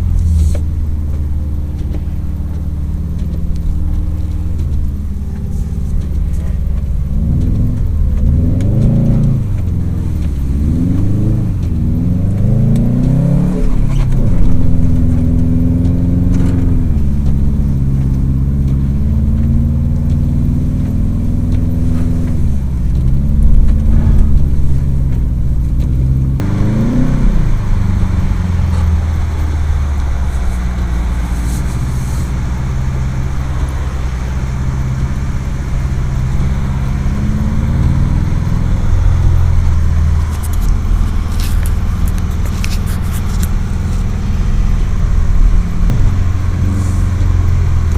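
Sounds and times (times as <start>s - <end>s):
car engine revving: 0.0s - 47.9s
road hiss: 0.0s - 47.9s.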